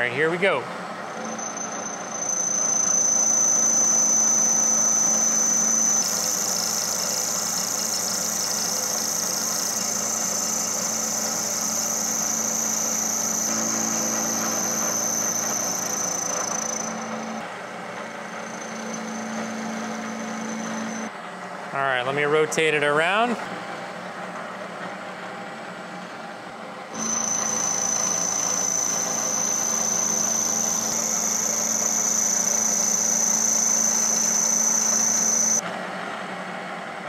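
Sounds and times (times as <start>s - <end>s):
milling machine high whine: 0.0s - 21.2s, 25.9s - 35.7s.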